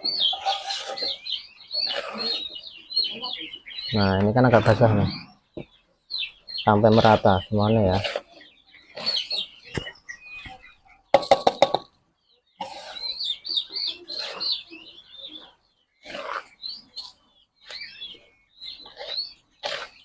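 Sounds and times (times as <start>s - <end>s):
bird feed mixed by hand: 0.0s - 5.1s, 6.7s - 11.8s, 12.6s - 20.0s
small birds chirping: 0.0s - 20.0s.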